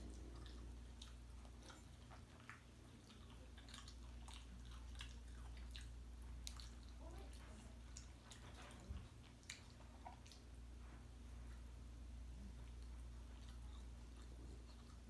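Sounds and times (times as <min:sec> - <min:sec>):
chewing with mouth clicks: 0:00.0 - 0:10.7, 0:12.4 - 0:15.0
low steady hum: 0:00.0 - 0:15.0.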